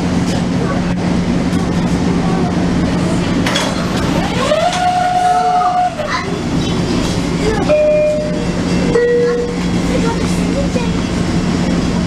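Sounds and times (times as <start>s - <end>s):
train running hum: 0.0s - 12.0s.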